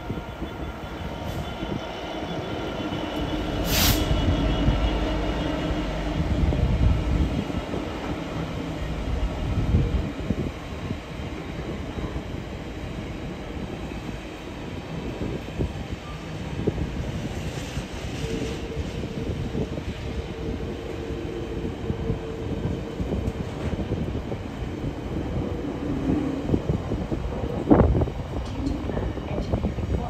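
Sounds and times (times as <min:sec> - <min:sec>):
diesel locomotive engine drone: 0:00.0 - 0:30.0
train wagons rumbling on rails: 0:00.0 - 0:30.0.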